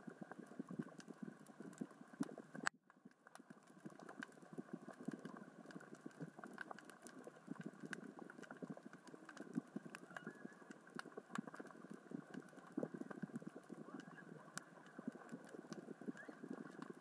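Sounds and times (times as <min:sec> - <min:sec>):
underwater rocks clicking: 0:00.1 - 0:17.0.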